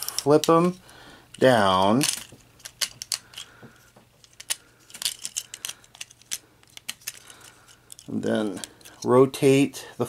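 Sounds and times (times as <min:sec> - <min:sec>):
plastic action figure joints clicking: 0:00.0 - 0:03.5, 0:04.2 - 0:09.1.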